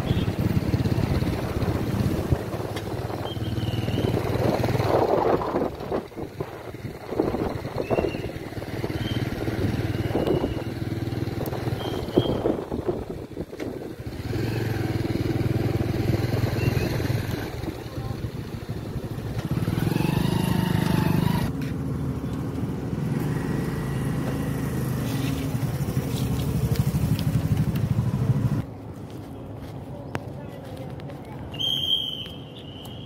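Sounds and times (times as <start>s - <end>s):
motorcycle engine revving: 0.0s - 28.6s.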